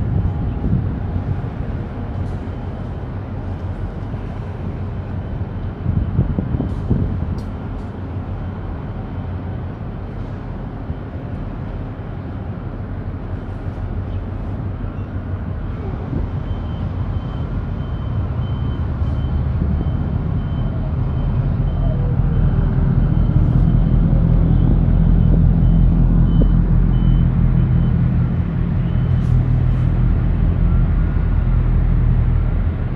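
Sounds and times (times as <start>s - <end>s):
ship engine rumble and hum: 0.0s - 32.9s.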